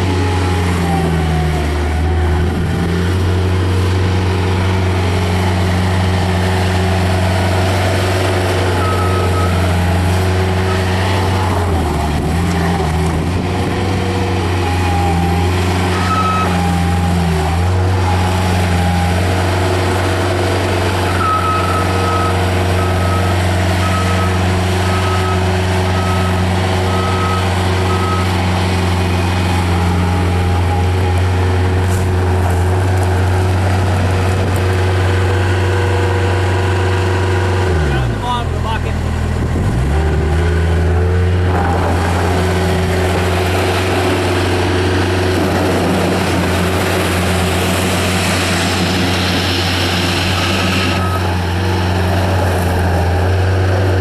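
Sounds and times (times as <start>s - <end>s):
diesel loader engine running: 0.0s - 54.0s.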